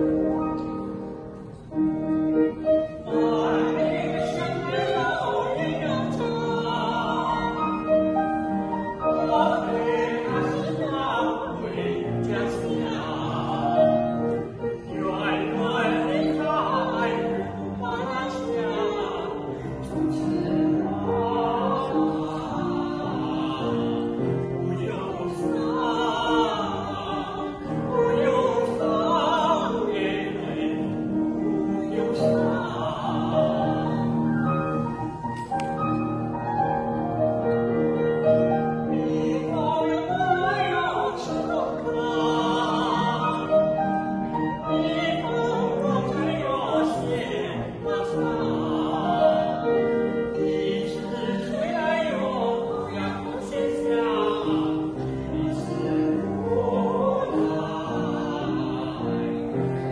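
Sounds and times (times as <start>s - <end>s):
woman and man singing operatic duet: 2.3s - 35.8s, 37.3s - 59.9s.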